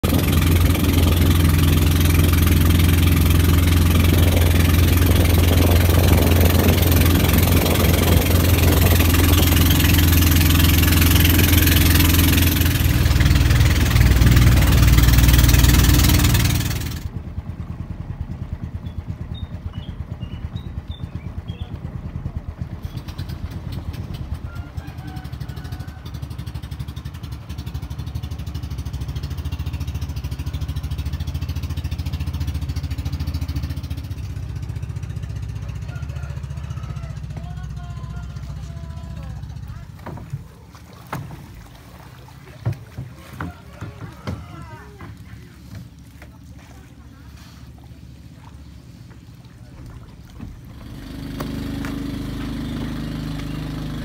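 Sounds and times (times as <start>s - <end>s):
loud boat engine: 0.0s - 54.0s
quieter boat engine puttering: 0.0s - 54.0s.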